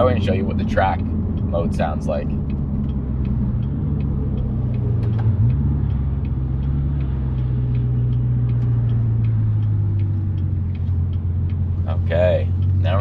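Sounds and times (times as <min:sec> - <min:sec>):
car engine running in cabin: 0:00.0 - 0:13.0
faint regular ticking: 0:00.0 - 0:13.0.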